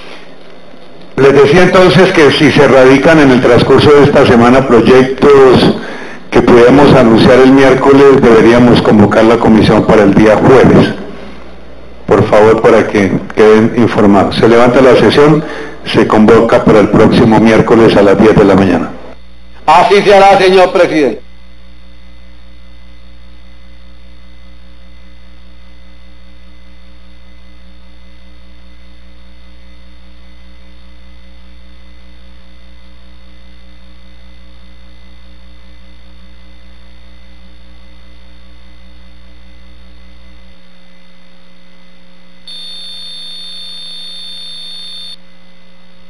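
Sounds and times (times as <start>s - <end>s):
electrical mains hum: 0.0s - 46.0s
high-pitched whine: 0.0s - 46.0s.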